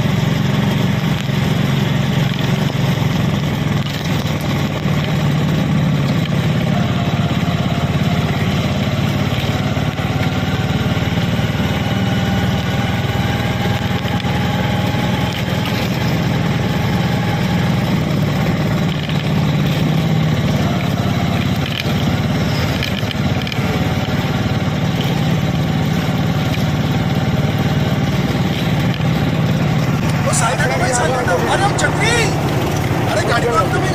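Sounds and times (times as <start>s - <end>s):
road and wind noise: 0.0s - 33.9s
vehicle engine running: 0.0s - 33.9s.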